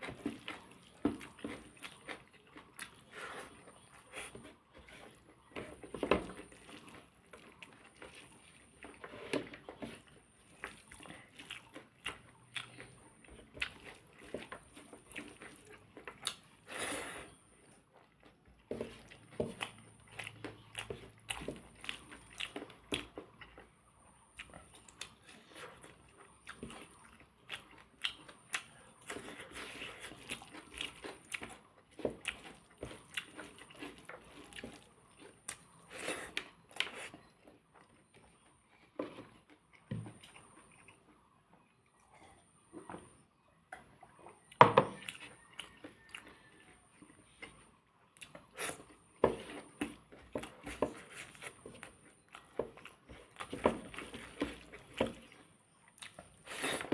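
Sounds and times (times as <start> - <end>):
person chewing and crunching: 0.0 - 42.8, 43.7 - 56.9.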